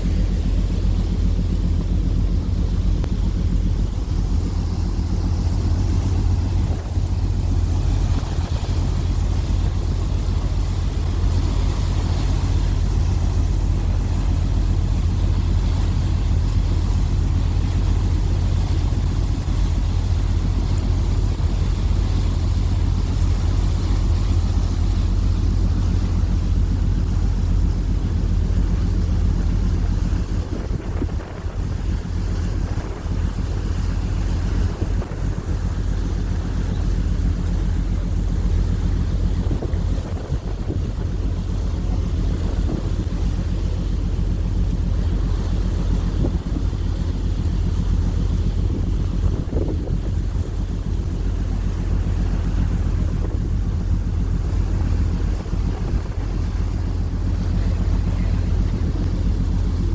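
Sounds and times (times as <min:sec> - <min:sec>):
ship engines droning: 0:00.0 - 0:59.9
wind noise on microphone: 0:00.0 - 0:59.9.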